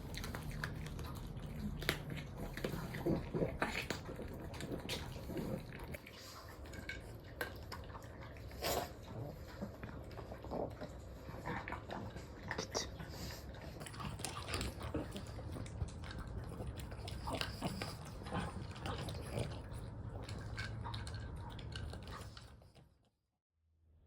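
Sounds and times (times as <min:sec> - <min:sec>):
dog chewing food: 0:00.0 - 0:22.9.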